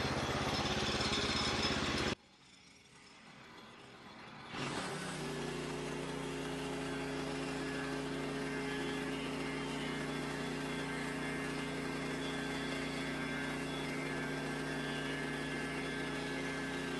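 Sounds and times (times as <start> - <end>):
sawmill engine running: 0.0 - 2.2, 2.8 - 16.9.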